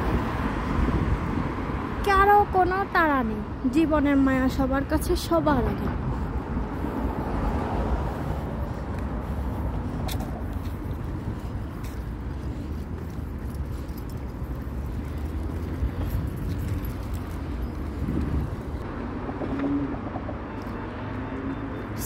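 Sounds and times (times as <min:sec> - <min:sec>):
cars passing at intersection: 0:00.0 - 0:22.0.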